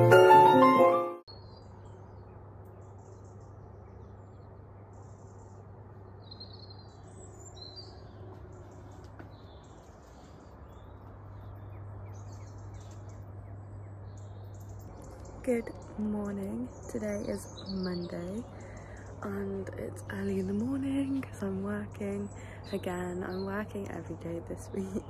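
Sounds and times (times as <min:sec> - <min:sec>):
birds chirping: 0:00.0 - 0:25.0
low steady hum: 0:01.3 - 0:25.0.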